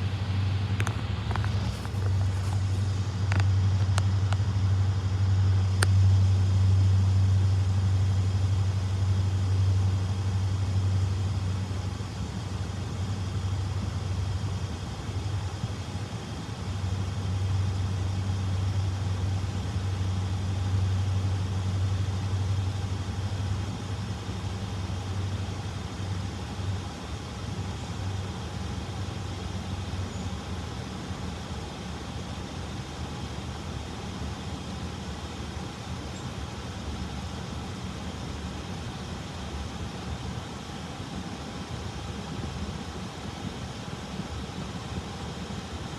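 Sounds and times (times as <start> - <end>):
diesel locomotive engine rumbling: 0.0 - 45.9.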